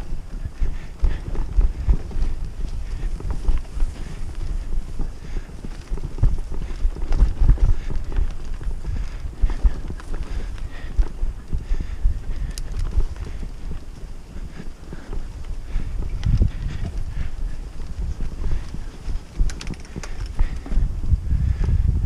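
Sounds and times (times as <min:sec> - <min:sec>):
bike rattling over bumps: 0:00.0 - 0:22.0.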